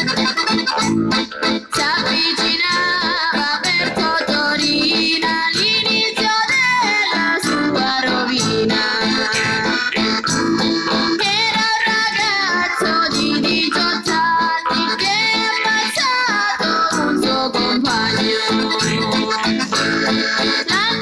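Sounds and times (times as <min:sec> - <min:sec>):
backing music with guitar: 0:00.0 - 0:21.0
jaw harp plucked rapidly: 0:00.0 - 0:21.0.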